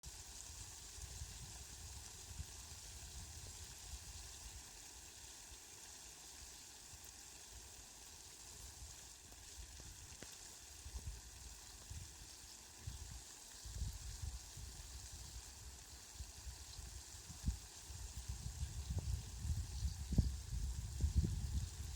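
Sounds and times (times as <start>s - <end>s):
rain hissing: 0.0s - 21.9s.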